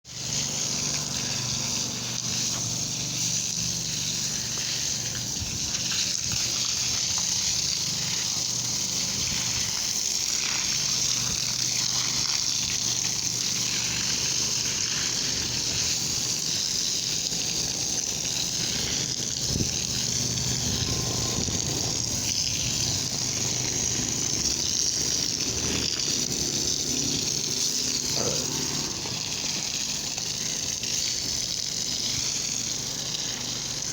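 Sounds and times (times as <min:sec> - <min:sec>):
water gushing: 0:00.0 - 0:33.9.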